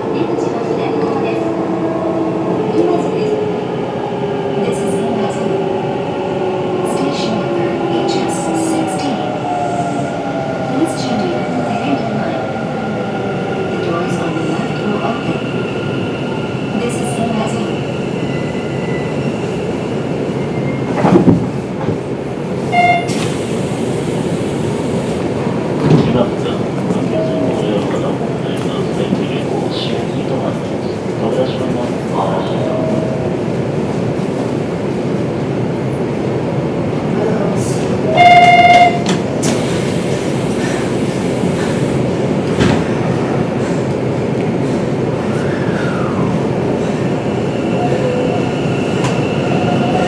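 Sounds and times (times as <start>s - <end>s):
electric train rumbling on rails: 0.0s - 50.0s.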